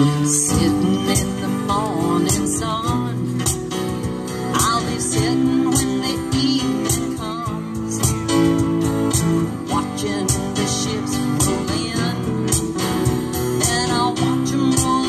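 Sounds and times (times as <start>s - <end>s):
hand percussion beat: 0.0s - 15.0s
strummed acoustic guitars: 0.0s - 15.0s
woman singing: 0.0s - 15.0s.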